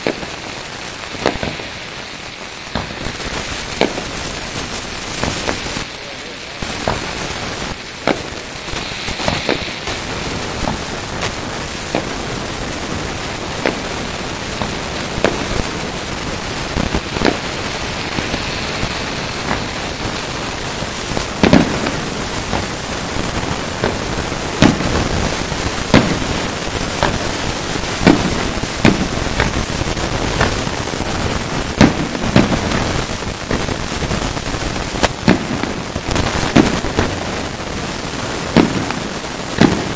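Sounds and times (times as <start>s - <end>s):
firework shells bursting: 0.0s - 39.9s
steady hiss: 0.0s - 39.9s.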